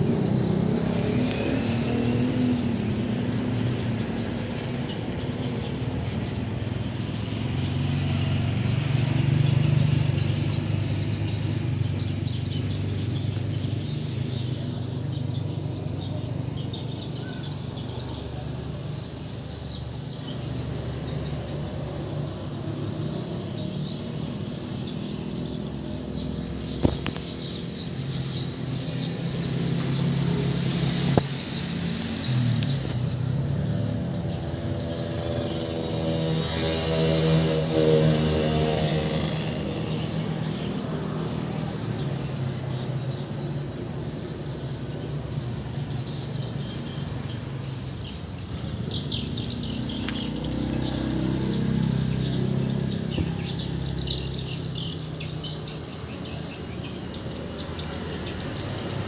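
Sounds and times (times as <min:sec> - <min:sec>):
birds chirping faintly: 0:00.0 - 0:59.0.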